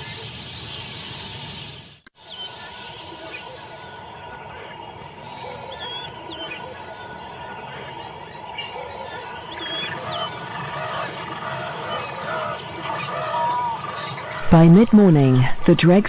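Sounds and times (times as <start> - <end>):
birds whistling: 0.0 - 14.4
insect chirping: 0.0 - 14.4.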